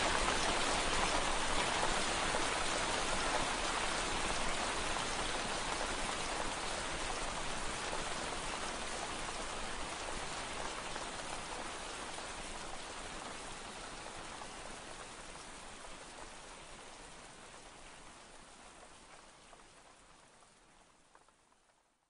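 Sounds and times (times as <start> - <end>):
rain pattering on window glass: 0.0 - 22.0.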